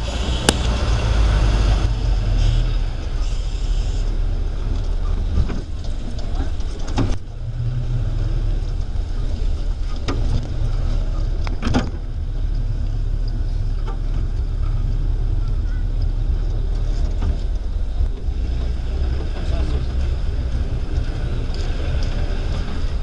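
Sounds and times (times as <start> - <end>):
off-road vehicle engine rumbling: 0.0 - 23.0.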